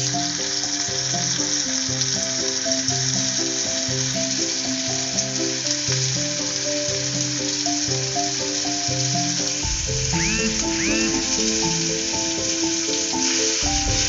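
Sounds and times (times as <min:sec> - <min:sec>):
background music melody: 0:00.0 - 0:14.0
food sizzling in hot oil: 0:00.0 - 0:14.0.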